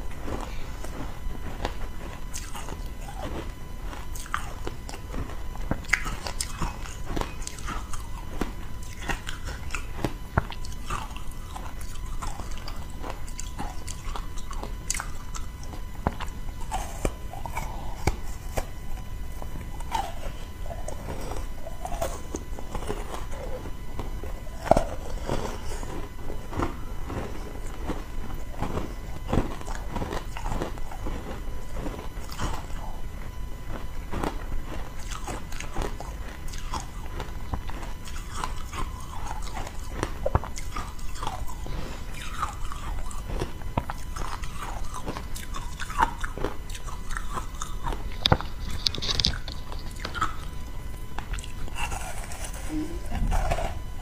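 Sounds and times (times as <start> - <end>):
crunching ice between teeth: 0.0 - 54.0.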